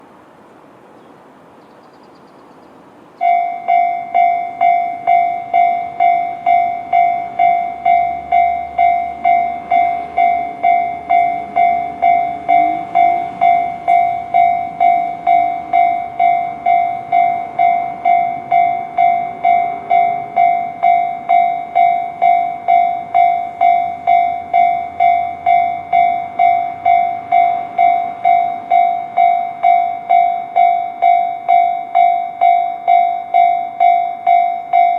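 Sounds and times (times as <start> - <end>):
bell struck repeatedly: 3.2 - 34.9.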